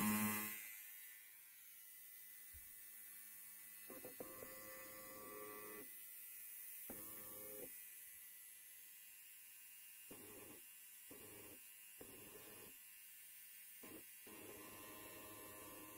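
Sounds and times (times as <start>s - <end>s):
electric hair clipper buzzing: 0.0s - 15.9s.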